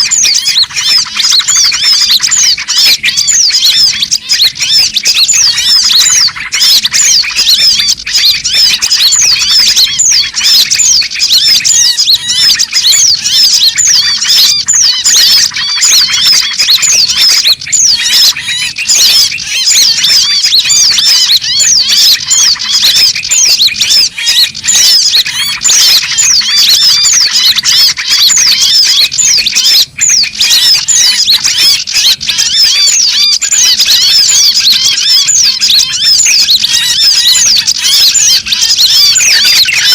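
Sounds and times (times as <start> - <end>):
chorus of small birds chattering: 0.0 - 39.9.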